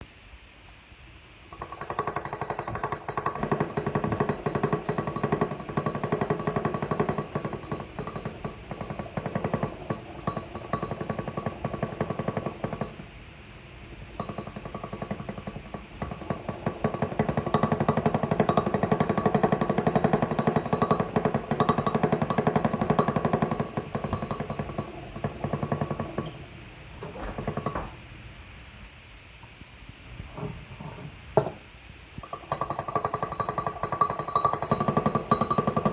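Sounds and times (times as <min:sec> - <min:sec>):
steady hum: 0:00.0 - 0:35.9
engine piston rattling buzz: 0:01.5 - 0:28.2, 0:32.2 - 0:35.9.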